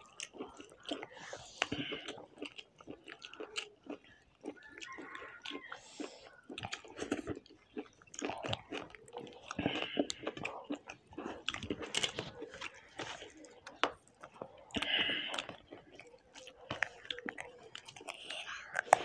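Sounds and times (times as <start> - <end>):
chewing and mouth smacks: 0.0 - 19.0.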